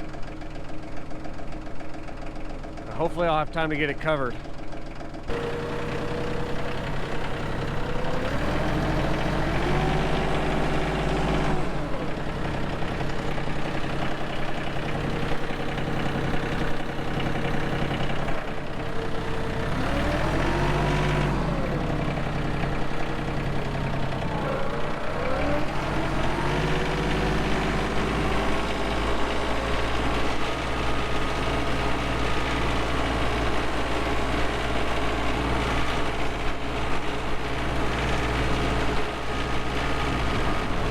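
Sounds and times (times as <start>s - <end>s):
tractor engine revving: 5.2s - 40.9s.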